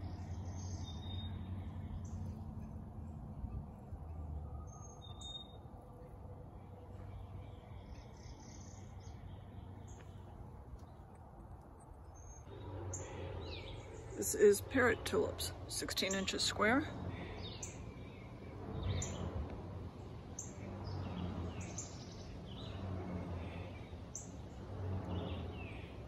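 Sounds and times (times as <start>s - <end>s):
birds chirping: 0.0s - 26.0s
faint steady low hum: 0.0s - 26.0s.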